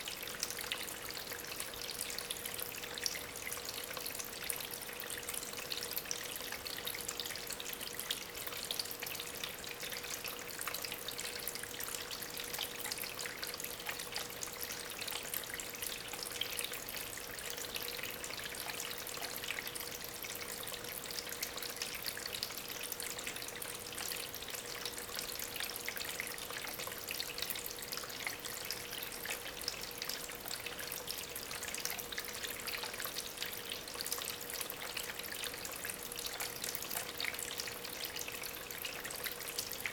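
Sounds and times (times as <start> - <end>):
faint pump hum: 0.0 - 39.9
water trickling over stones: 0.0 - 39.9.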